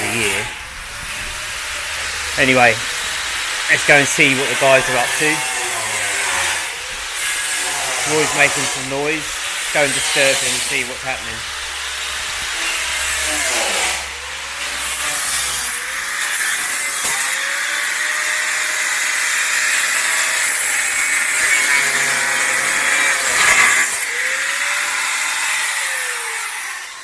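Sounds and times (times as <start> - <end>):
power tool grinding steel: 0.0 - 27.0.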